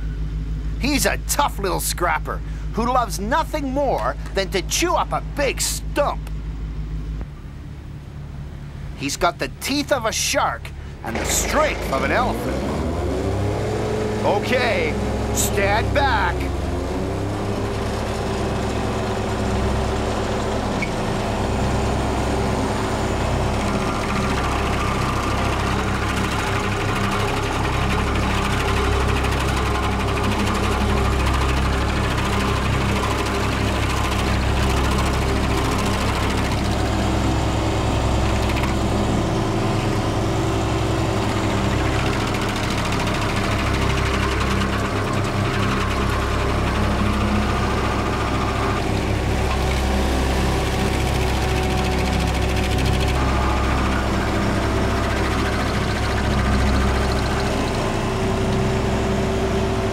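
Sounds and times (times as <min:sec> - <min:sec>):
stump grinder running: 0:09.7 - 0:59.9.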